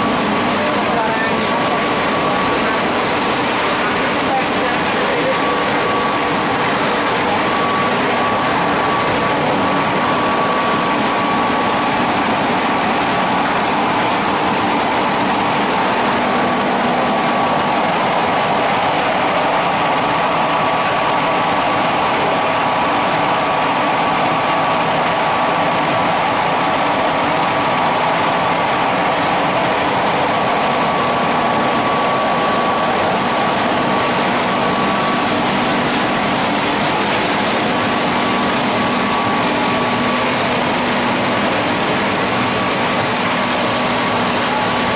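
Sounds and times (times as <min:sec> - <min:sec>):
high machine whine: 0:00.0 - 0:44.9.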